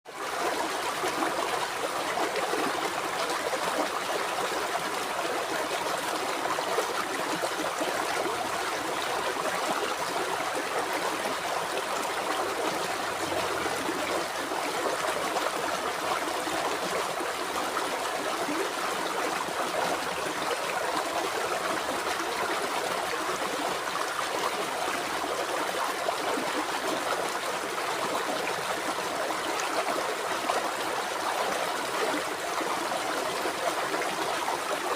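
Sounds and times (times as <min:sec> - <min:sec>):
river water babbling over stones: 0:00.1 - 0:34.9.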